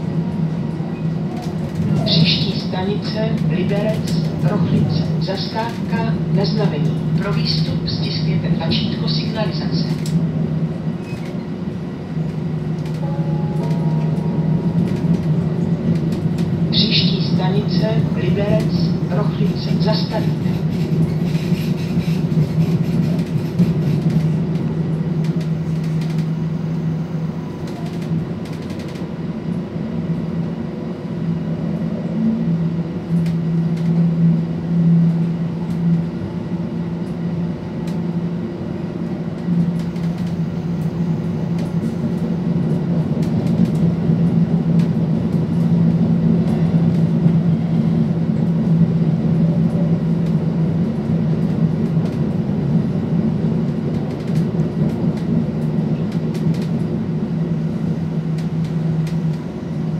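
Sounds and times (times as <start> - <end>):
railcar engine drone: 0.0 - 59.9.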